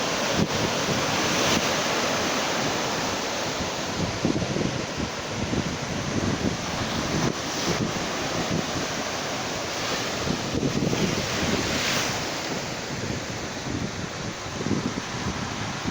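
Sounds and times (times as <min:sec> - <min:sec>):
waves washing over shoreline: 0:00.0 - 0:15.9
wind gusting against microphone: 0:00.0 - 0:15.9.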